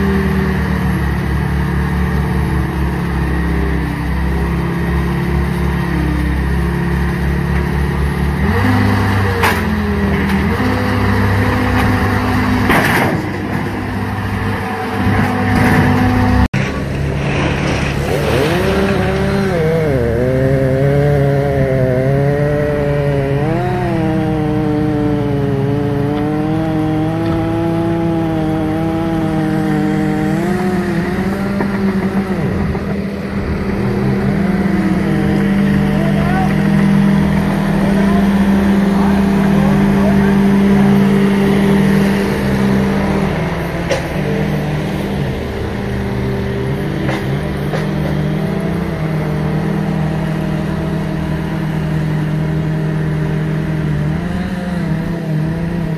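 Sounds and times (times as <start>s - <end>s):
track loader engine hum: 0.0s - 55.9s.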